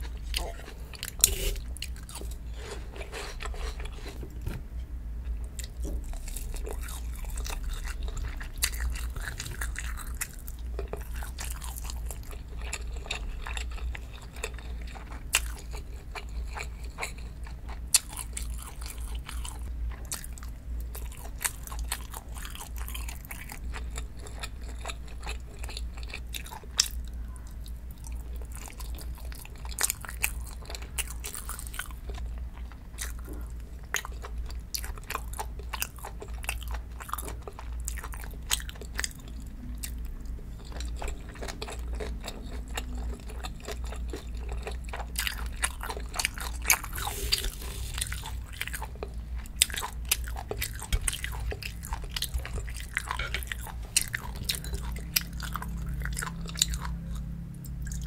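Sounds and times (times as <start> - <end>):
chewing and biting food: 0.0 - 4.6, 5.2 - 58.0
steady low hum: 0.0 - 58.0.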